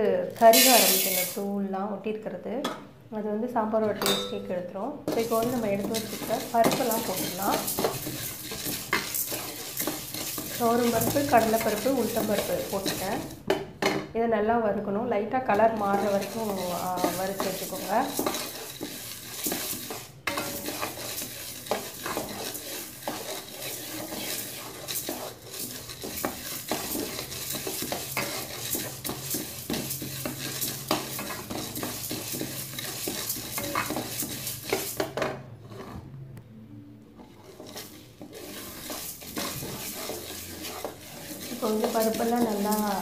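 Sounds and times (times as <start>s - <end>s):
lentils rattling in a pan: 0.4s - 1.4s, 5.1s - 13.6s, 15.5s - 35.2s, 37.5s - 43.0s.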